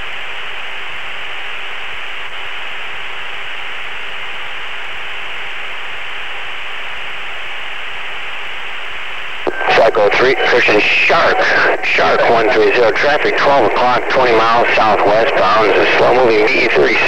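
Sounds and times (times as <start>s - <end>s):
faint steady hum: 0.0s - 17.0s
radio static hiss: 0.0s - 17.0s.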